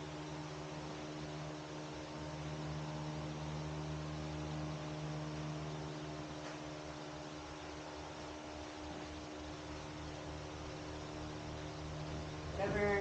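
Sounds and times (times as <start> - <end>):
constant hiss: 0.0 - 13.0
electrical hum: 0.0 - 13.0.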